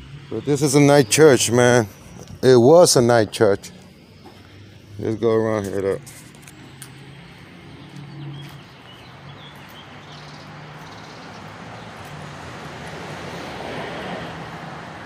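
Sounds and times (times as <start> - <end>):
engine hum: 0.0 - 15.0
road noise: 0.0 - 15.0.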